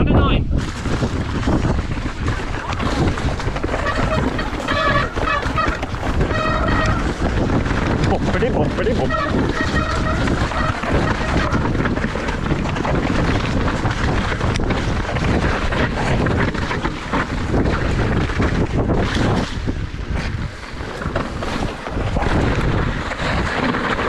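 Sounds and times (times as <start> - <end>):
wind rushing over microphone: 0.0 - 24.0
bike knocks and rattles: 0.6 - 24.0
tyres rolling over dirt and stones: 0.6 - 24.0.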